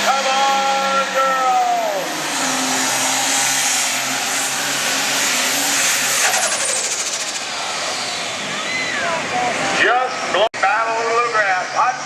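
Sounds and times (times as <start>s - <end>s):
diesel tractor engine under load: 0.0s - 10.4s
high turbo whine: 0.0s - 12.0s.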